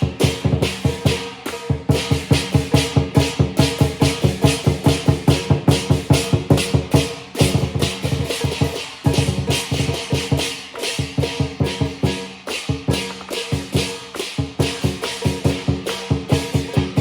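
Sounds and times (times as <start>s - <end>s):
crashing cymbals: 0.0s - 17.0s
drum beaten fast: 0.0s - 17.0s.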